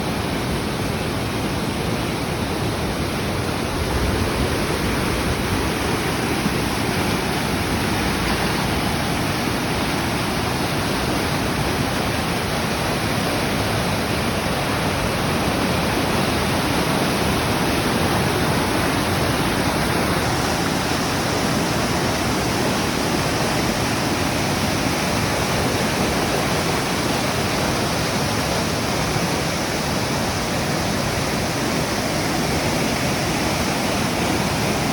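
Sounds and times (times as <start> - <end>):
stream rushing loudly: 0.0 - 34.9.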